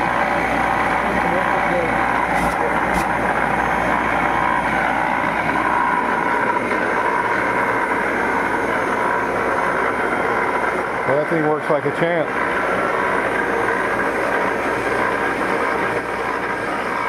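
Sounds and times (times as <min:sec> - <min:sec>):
aeration blower rushing hum: 0:00.0 - 0:17.0.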